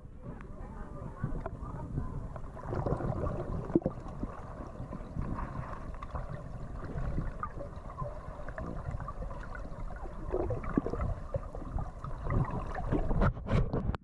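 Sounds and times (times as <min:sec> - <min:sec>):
underwater water rumbling: 0:00.0 - 0:14.0.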